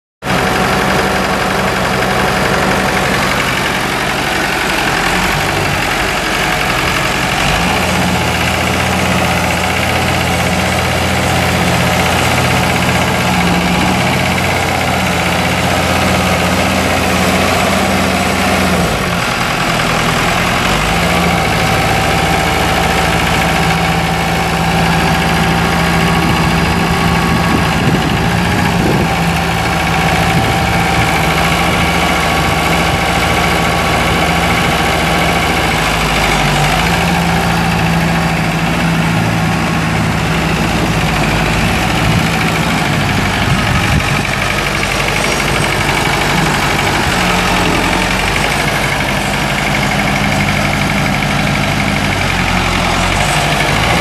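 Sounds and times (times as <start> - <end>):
tractor diesel engine running: 0.2 - 54.0.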